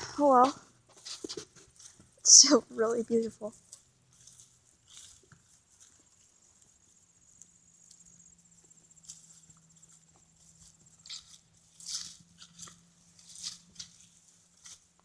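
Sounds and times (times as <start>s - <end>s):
footsteps on a trail: 0.0s - 15.0s.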